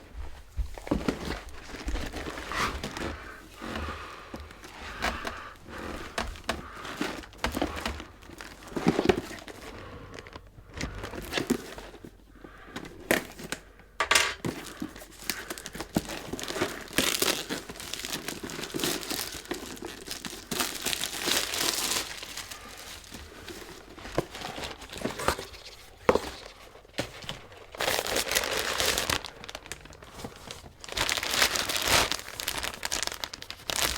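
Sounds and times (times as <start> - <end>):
packaging crinkling and tearing: 0.9 - 12.1, 14.4 - 33.9.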